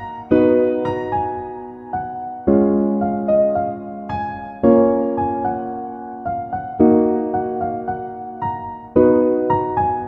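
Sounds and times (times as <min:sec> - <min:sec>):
soft electric piano chords: 0:00.0 - 0:10.0.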